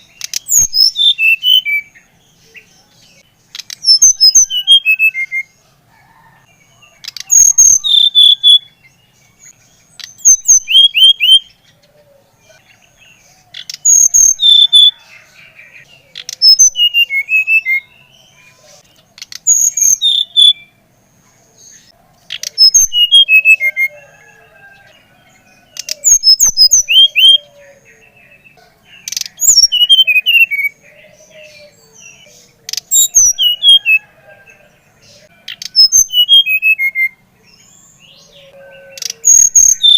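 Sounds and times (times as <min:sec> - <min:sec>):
songbird singing whistled notes: 0:00.0 - 0:39.9.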